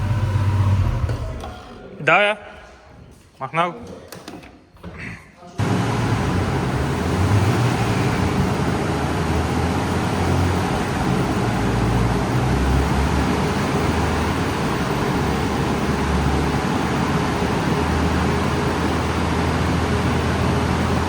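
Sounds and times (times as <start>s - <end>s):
road noise: 0.0s - 1.5s, 5.6s - 21.0s
car engine rumble: 0.0s - 1.7s, 5.6s - 21.0s.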